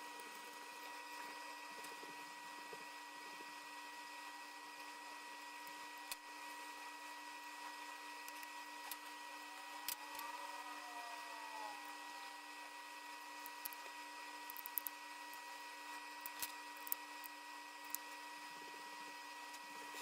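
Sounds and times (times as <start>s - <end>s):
faint electrical whine: 0.0s - 20.0s.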